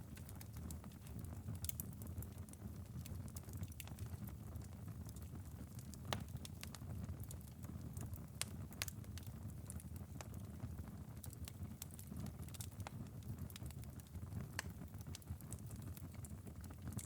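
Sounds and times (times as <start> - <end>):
fire crackling and popping: 0.0 - 17.0
fire low rumble: 0.0 - 17.0.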